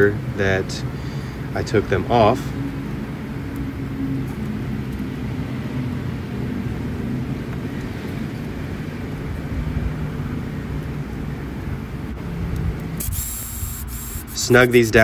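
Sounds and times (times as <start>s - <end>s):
low mechanical hum: 0.0s - 15.0s
rumbling background noise: 0.0s - 15.0s.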